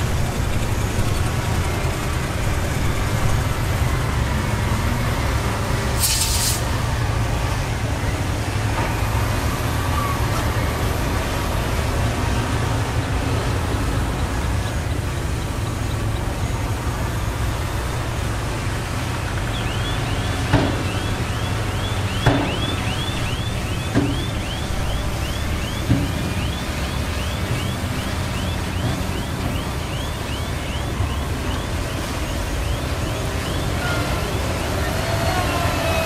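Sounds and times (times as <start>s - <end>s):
diesel machinery rumbling: 0.0s - 36.0s.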